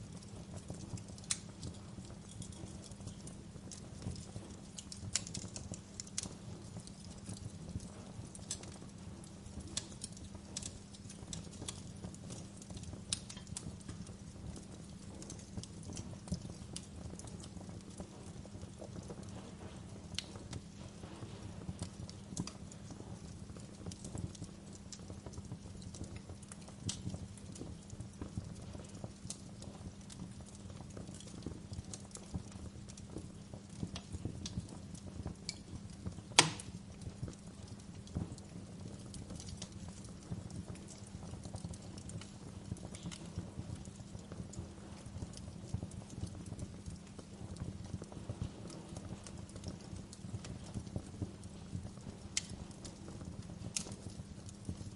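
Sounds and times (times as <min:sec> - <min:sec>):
fire crackling and popping: 0:00.0 - 0:54.9
low rumble of burning fire: 0:00.0 - 0:54.9.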